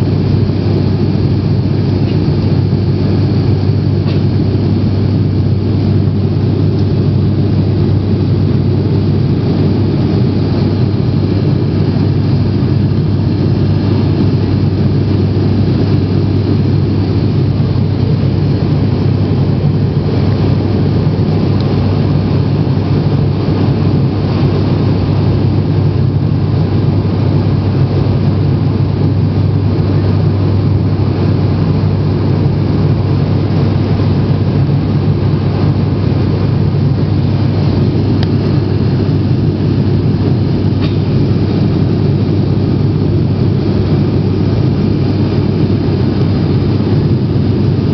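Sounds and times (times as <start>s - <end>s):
airliner engine drone in cabin: 0.0s - 47.9s.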